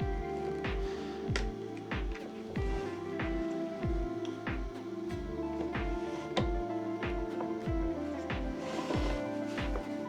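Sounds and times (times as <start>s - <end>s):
deep kick drum beat: 0.0s - 9.9s
held synth tones: 0.0s - 10.0s.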